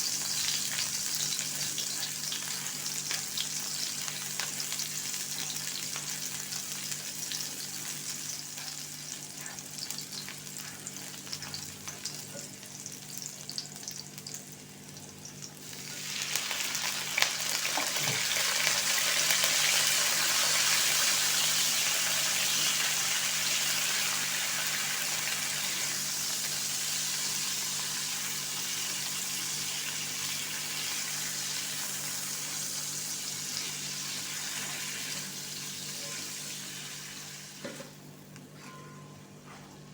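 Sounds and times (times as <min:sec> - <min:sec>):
food sizzling in hot oil: 0:00.0 - 0:38.2.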